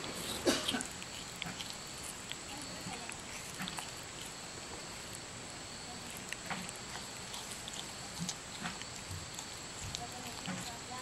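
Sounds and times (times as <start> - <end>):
monkey mouth clicks and smacks: 0.0 - 5.2, 6.1 - 11.0.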